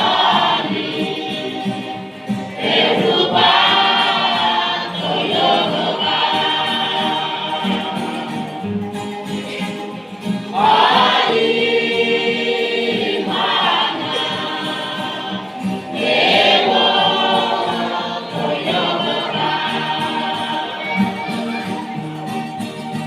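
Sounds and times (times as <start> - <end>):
youth choir singing a hymn: 0.0 - 22.0.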